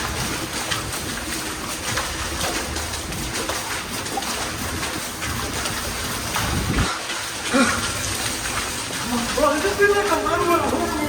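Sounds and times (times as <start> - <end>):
hurried footsteps in a tunnel: 0.0 - 11.0.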